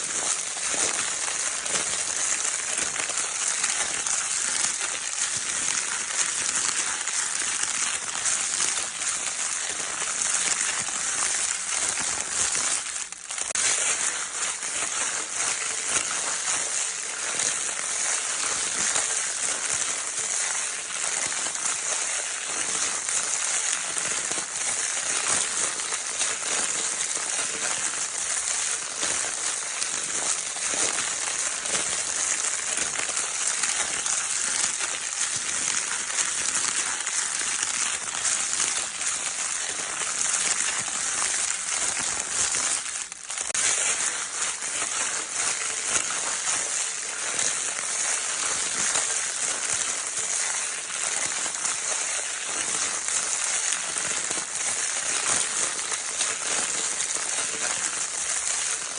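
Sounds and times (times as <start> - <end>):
crinkle paper crackling: 0.0 - 58.9.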